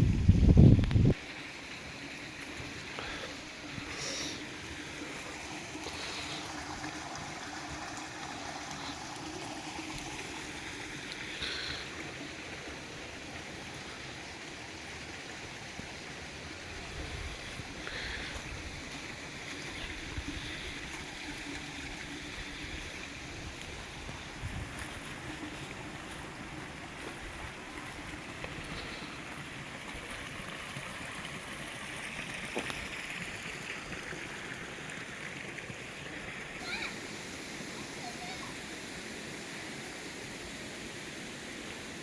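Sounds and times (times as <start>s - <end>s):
flowing water rushing: 0.0s - 42.0s.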